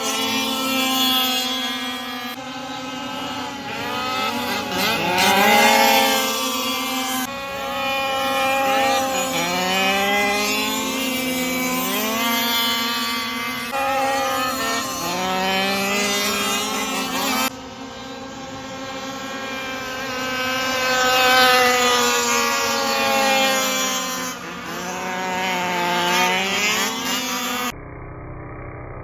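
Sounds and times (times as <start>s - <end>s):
rc car engines revving: 0.0s - 29.0s.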